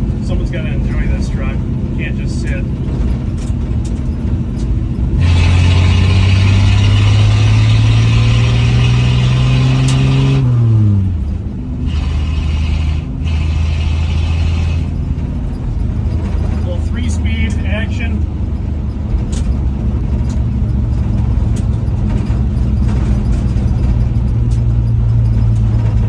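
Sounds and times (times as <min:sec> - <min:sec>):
truck engine accelerating: 0:00.0 - 0:26.0.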